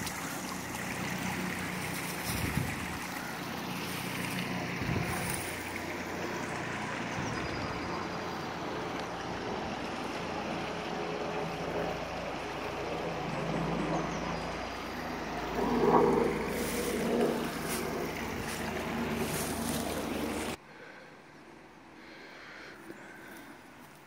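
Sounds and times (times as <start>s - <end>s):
stream trickling over stones: 0.0s - 13.3s, 14.6s - 20.6s.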